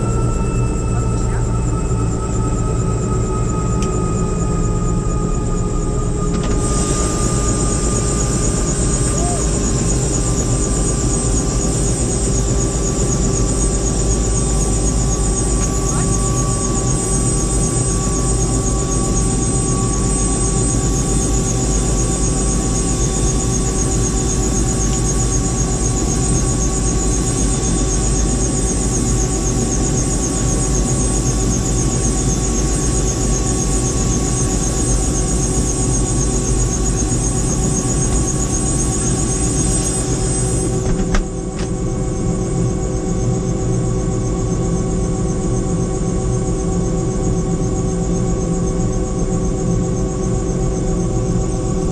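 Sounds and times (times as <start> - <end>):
high whine: 0.0 - 43.4
helicopter drone: 0.0 - 51.9.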